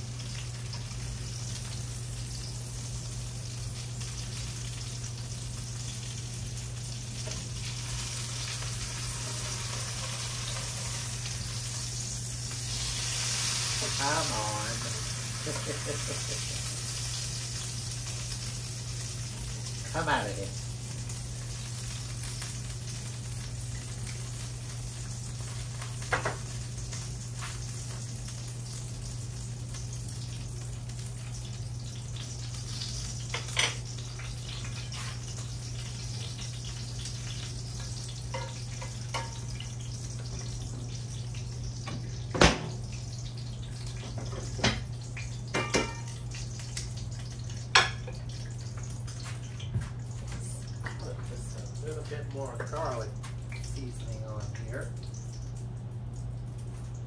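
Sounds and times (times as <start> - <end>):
constant low hum: 0.0 - 57.0
steaks sizzling in oil: 0.0 - 57.0.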